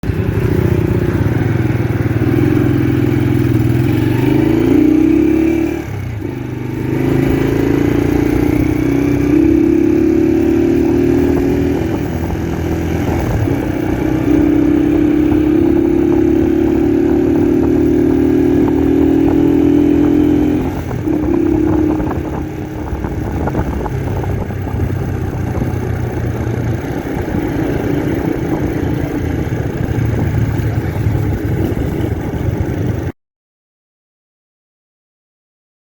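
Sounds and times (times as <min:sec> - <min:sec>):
motorcycle engine shifting gears: 0:00.0 - 0:33.1.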